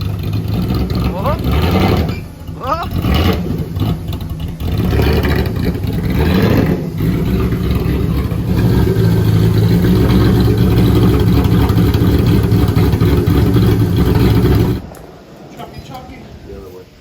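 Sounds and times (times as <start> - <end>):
supercharged car engine running: 0.0 - 15.4.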